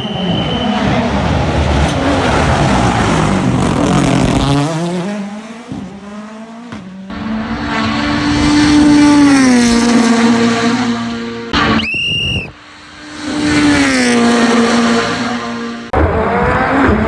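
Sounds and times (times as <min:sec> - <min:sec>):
rally car engines racing past: 0:00.0 - 0:11.8, 0:12.5 - 0:17.0.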